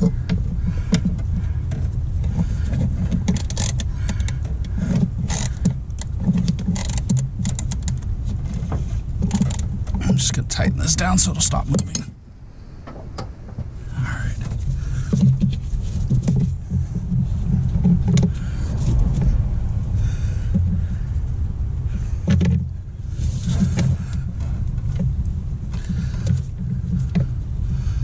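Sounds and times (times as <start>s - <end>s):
low background rumble: 0.0s - 28.0s.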